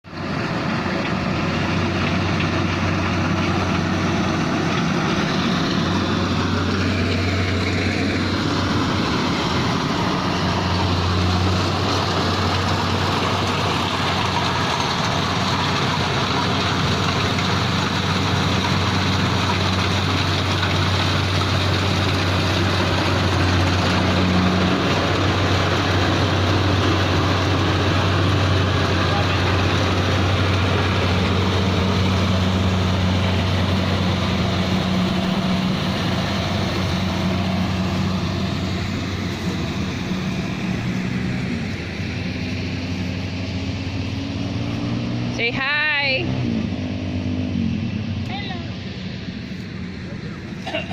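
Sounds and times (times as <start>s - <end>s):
combine harvester running: 0.0s - 50.9s.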